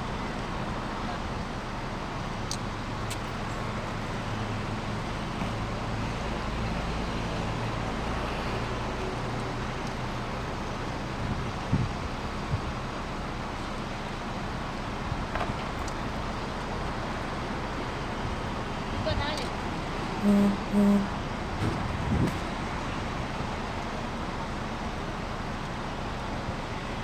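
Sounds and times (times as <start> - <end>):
road traffic noise: 0.0 - 27.0
vehicle engine hum: 0.0 - 27.0.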